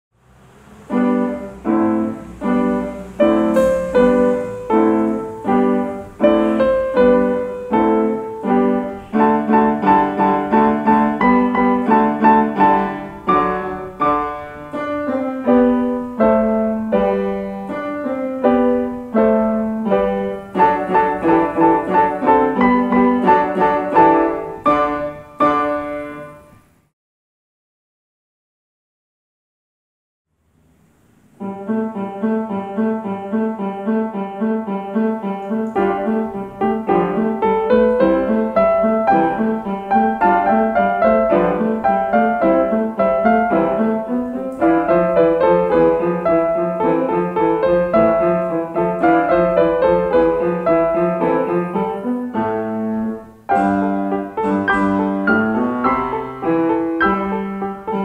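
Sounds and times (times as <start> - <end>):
piano duet: 0.1 - 26.9, 30.5 - 58.0.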